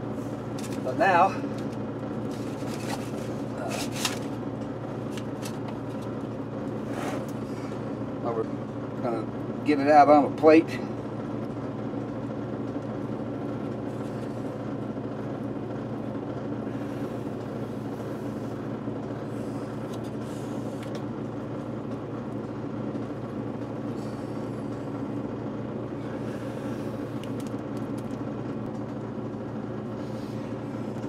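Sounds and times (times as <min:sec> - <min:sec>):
machine drone: 0:00.0 - 0:09.6, 0:10.8 - 0:31.0.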